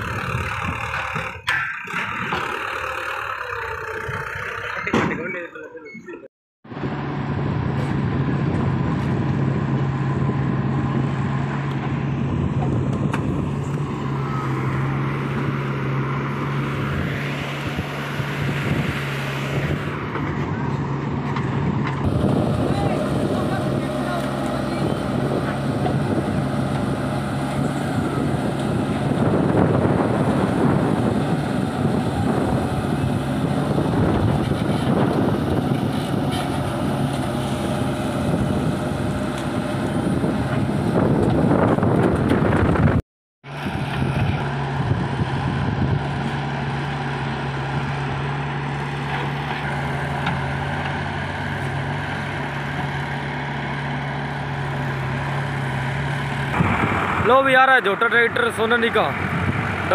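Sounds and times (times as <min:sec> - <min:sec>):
backhoe digging and dumping clay: 0:00.0 - 0:05.5, 0:07.7 - 0:42.9, 0:43.5 - 0:57.5
diesel engine running under load: 0:00.0 - 0:05.8, 0:06.6 - 0:59.9.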